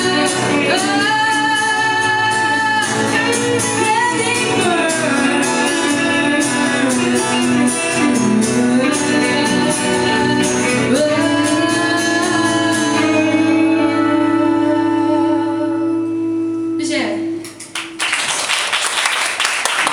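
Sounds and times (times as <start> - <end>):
pop-rock band playing: 0.0 - 16.0.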